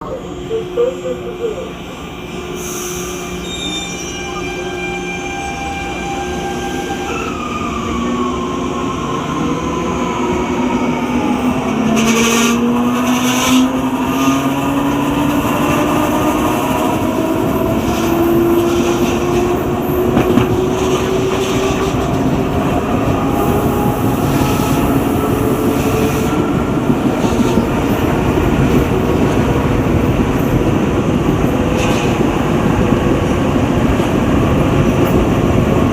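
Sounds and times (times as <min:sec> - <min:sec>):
wheels rumbling on rail: 0:00.0 - 0:35.9.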